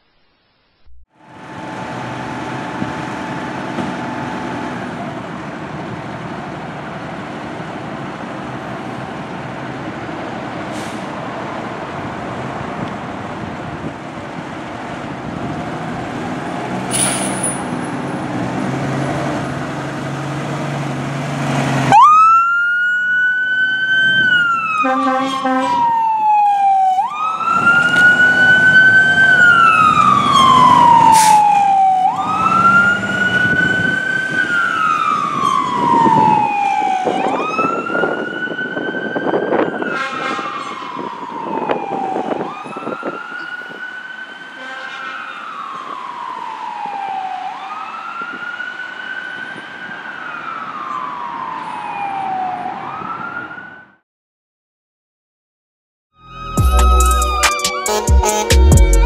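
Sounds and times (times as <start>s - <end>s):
fire engine siren wailing: 1.2s - 16.8s, 18.0s - 54.0s, 56.2s - 59.0s.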